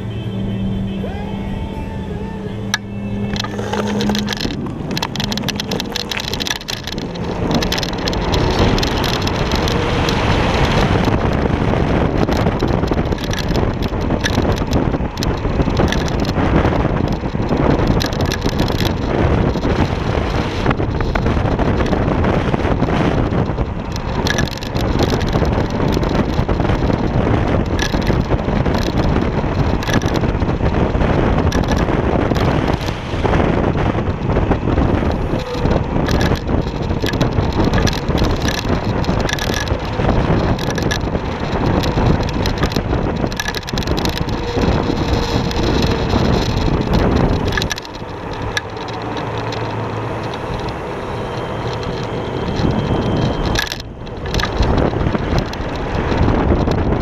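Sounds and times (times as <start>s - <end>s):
electric scooter road noise: 0.0s - 57.0s
wind noise on microphone: 0.0s - 57.0s.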